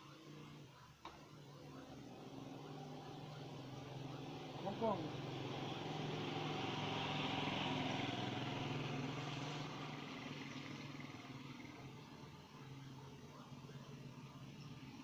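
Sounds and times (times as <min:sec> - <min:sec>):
vehicle engine passing by: 0:01.4 - 0:15.0.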